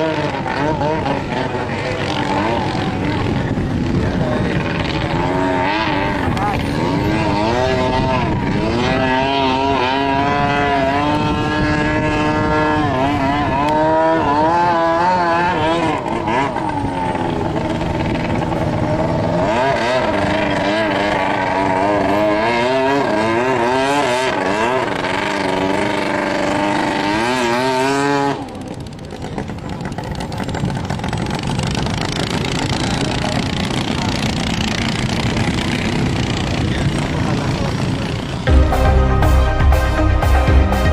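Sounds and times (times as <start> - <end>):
noisy rush: 0.0 - 40.9
racing boat engine: 0.0 - 40.9.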